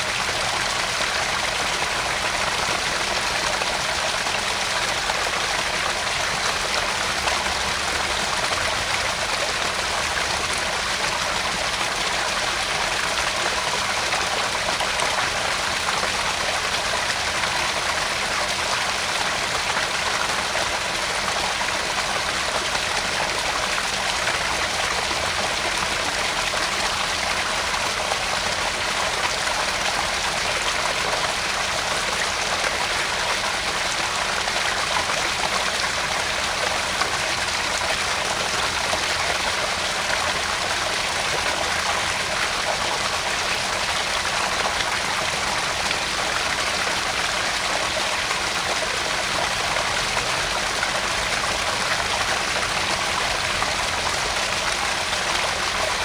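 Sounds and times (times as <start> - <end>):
water trickling into a pond: 0.0 - 56.0.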